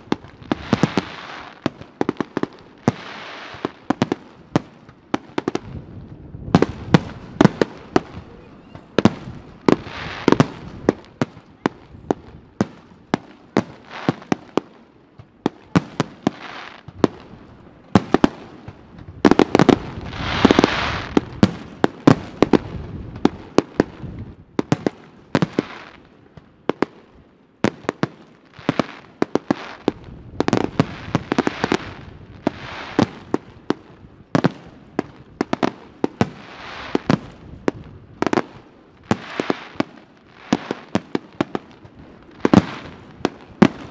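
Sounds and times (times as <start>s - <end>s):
firework crackling and hissing: 0.0s - 43.9s.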